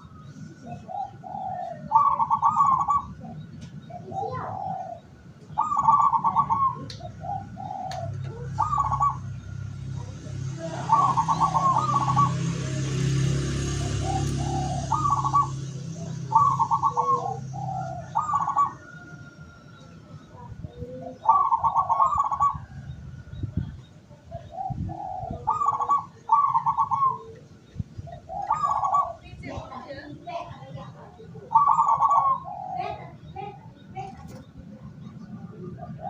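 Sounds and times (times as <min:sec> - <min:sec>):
doves cooing: 0:00.0 - 0:36.0.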